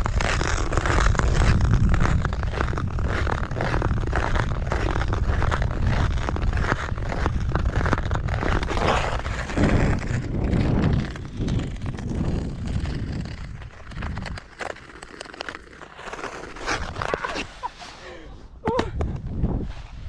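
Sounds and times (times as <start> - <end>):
wind on microphone: 0.0 - 14.7, 18.4 - 20.0
ice skates scraping on ice: 0.0 - 18.6.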